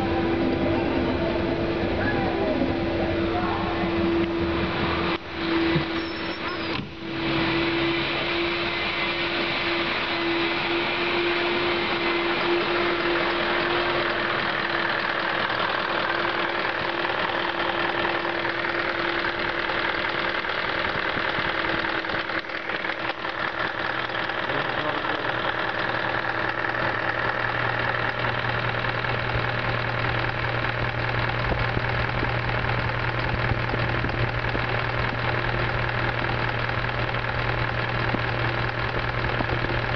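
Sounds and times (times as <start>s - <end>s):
car engine idling: 0.0s - 39.9s
steady whine: 0.0s - 39.9s.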